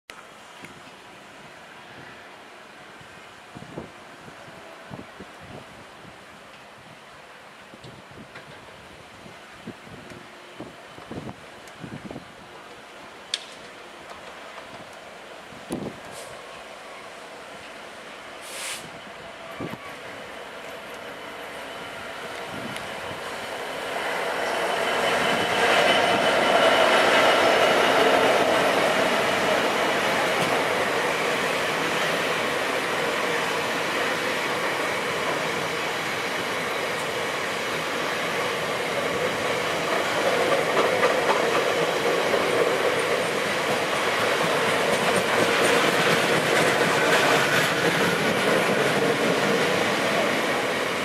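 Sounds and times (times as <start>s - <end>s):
diesel locomotive engine: 7.2s - 51.0s.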